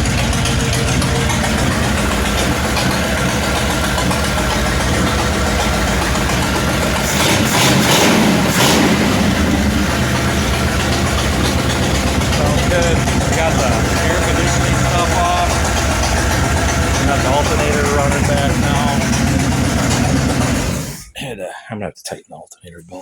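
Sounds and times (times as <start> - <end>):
car engine idling: 0.0 - 21.2.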